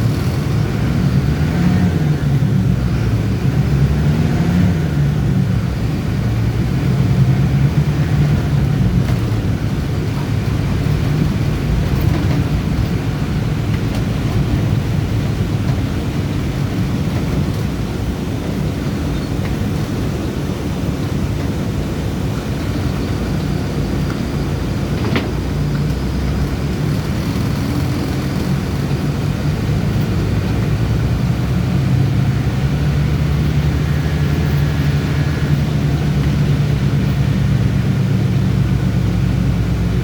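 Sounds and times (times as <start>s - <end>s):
bus engine drone: 0.0s - 40.0s
road noise: 0.0s - 40.0s.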